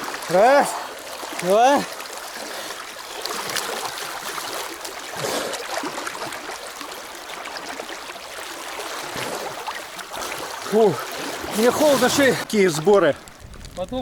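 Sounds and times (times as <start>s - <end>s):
river water running: 0.0s - 13.6s
faint water splashes: 0.0s - 14.0s.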